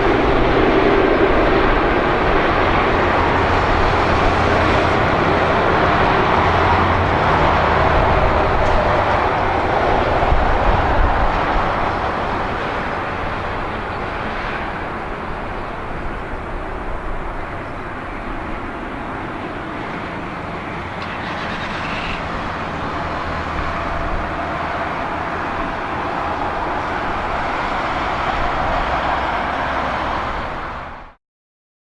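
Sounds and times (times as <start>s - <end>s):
jet engine rumble: 0.0s - 31.2s.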